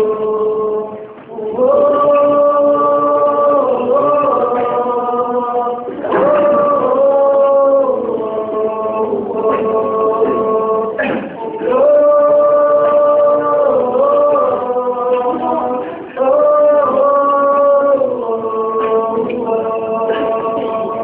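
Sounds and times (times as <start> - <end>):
man singing slow melody: 0.0 - 21.0.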